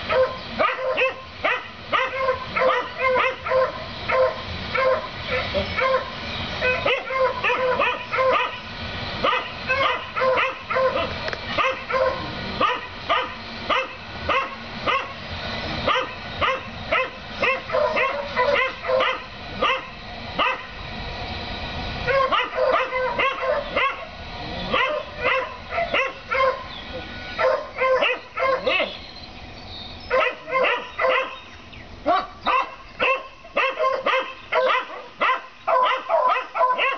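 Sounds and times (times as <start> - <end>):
dogs barking: 0.0 - 20.8, 22.0 - 29.0, 30.1 - 36.9.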